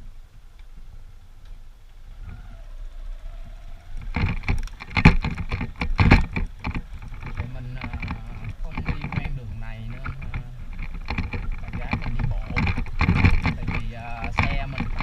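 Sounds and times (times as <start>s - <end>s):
motorcycle engine rumble: 0.0s - 15.0s
road and wind noise: 0.0s - 15.0s
loud irregular knocks and buffeting: 1.4s - 15.0s.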